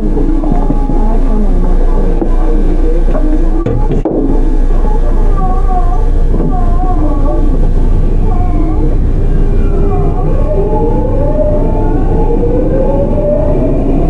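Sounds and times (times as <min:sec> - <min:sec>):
electric train motor whine: 0:00.0 - 0:14.0
train running rumble: 0:00.0 - 0:14.0.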